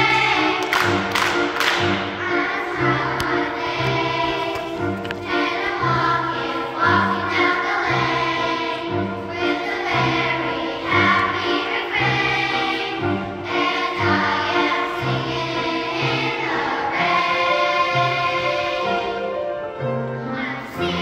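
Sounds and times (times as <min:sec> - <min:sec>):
children's choir singing: 0:00.0 - 0:21.0
instrumental accompaniment: 0:00.0 - 0:21.0.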